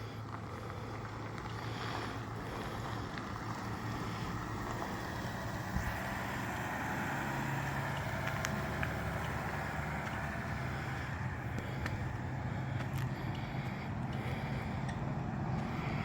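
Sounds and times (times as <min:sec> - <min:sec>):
road and wind noise: 0:00.0 - 0:16.0
vehicle engine hum: 0:00.0 - 0:16.0.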